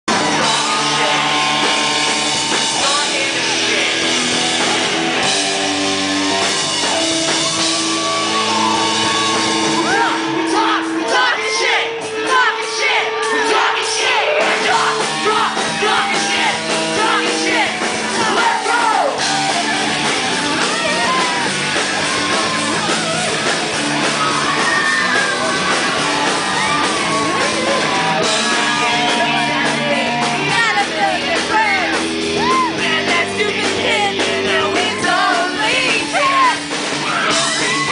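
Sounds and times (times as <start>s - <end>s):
rock band playing live: 0.1s - 37.9s.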